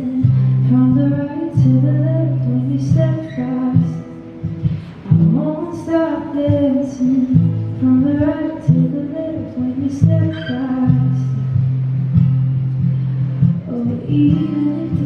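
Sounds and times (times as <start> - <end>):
song with singing and guitar: 0.0 - 15.0.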